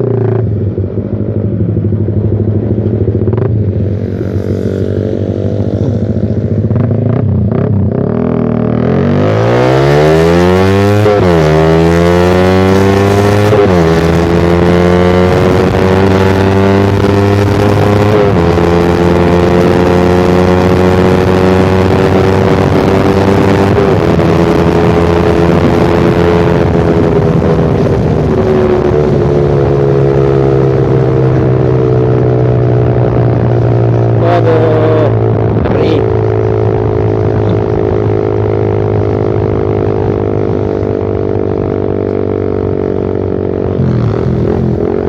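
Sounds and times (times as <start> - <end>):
loud motorcycle engine accelerating: 0.0 - 45.0.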